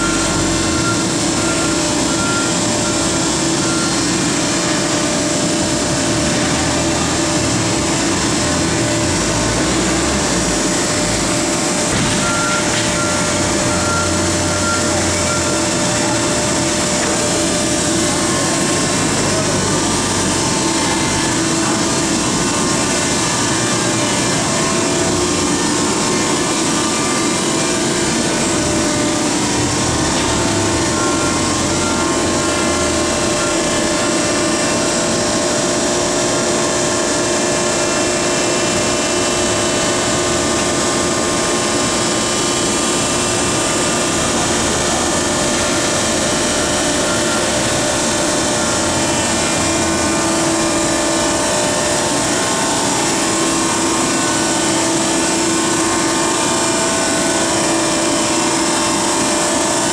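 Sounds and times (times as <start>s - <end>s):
hydraulic machine drone with whine: 0.0s - 59.9s.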